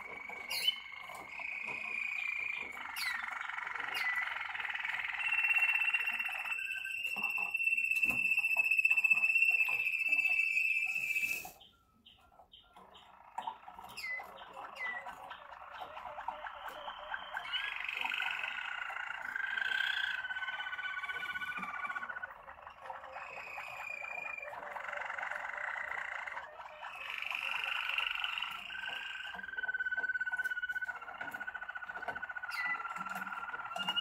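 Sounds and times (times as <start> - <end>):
canary singing trills: 0.0 - 34.0.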